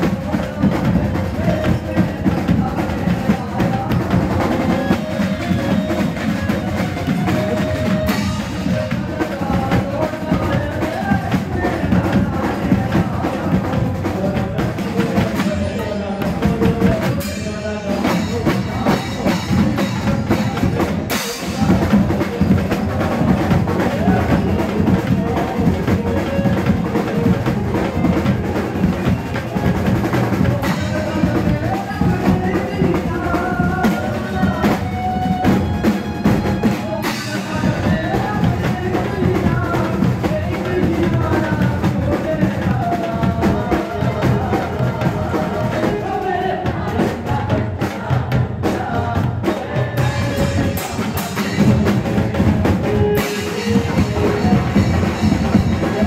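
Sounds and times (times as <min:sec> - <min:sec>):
drums and keyboard beat: 0:00.0 - 0:56.0
man singing into a microphone: 0:00.0 - 0:56.0.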